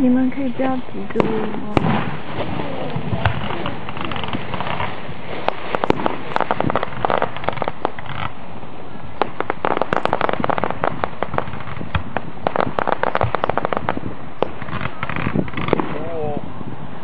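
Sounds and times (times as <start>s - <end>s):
fireworks bangs and rapid pops: 1.1s - 8.4s, 9.2s - 16.1s.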